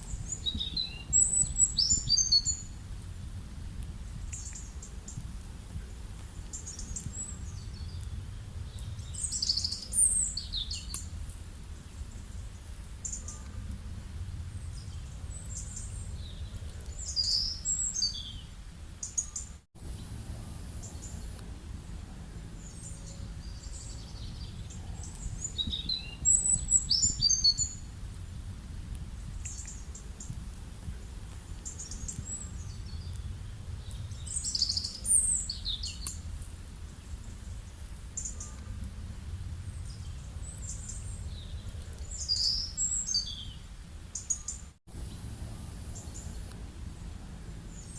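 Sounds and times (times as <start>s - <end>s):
small birds chirping: 0.0s - 3.4s, 4.1s - 47.9s
low background rumble: 0.0s - 44.2s, 44.9s - 47.9s.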